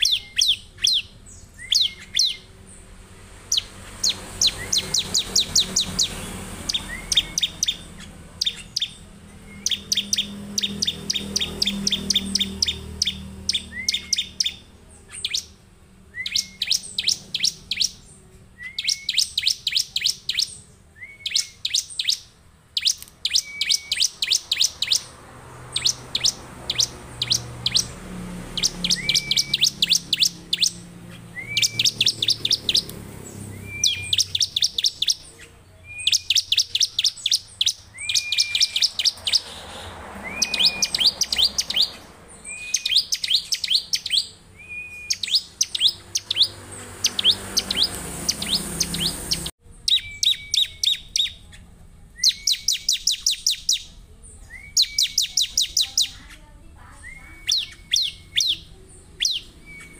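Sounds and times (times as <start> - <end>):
bird singing high notes: 0.0 - 51.6, 52.2 - 59.9.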